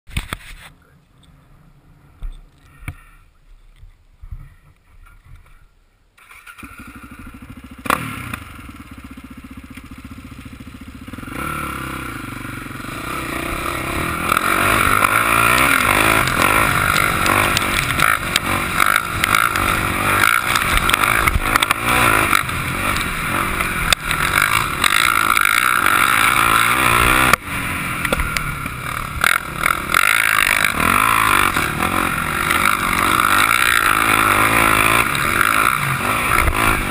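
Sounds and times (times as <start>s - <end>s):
quad engine idling and revving: 6.2s - 36.9s.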